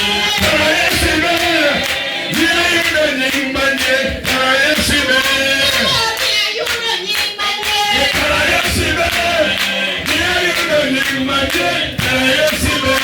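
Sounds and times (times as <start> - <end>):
crowd singing a praise song: 0.0 - 13.0
hand clapping: 0.0 - 13.0.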